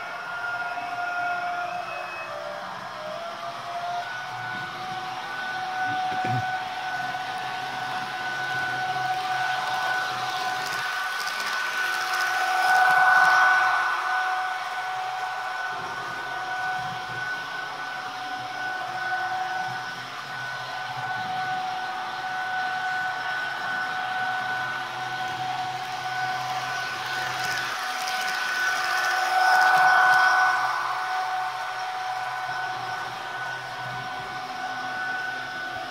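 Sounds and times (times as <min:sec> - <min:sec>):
two-note electric whine: 0:00.0 - 0:35.9
hiss: 0:03.8 - 0:35.9.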